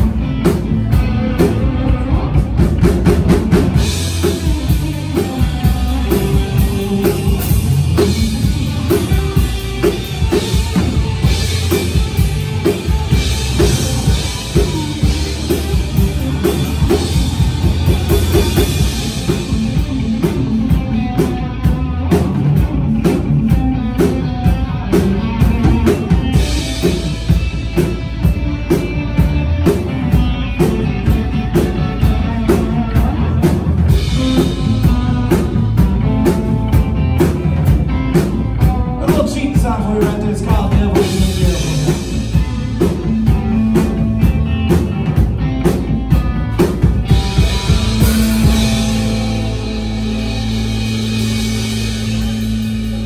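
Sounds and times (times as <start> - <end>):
drum kit beat: 0.0 - 53.0
live rock-country band: 0.0 - 53.0.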